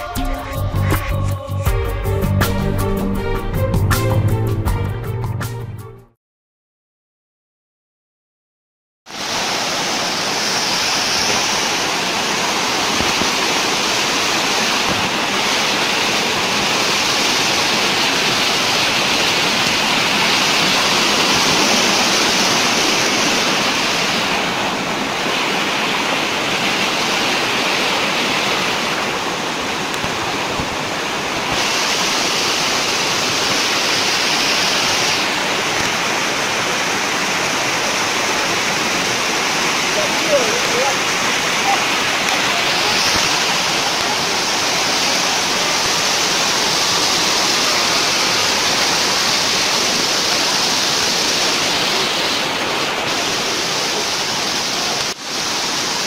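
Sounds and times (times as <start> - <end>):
waterfall rushing over rocks: 9.1 - 56.0.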